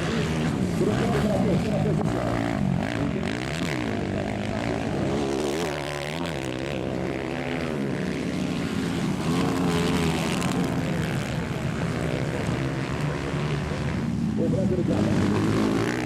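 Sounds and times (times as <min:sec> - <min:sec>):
motorcycle engines racing: 0:00.0 - 0:16.0.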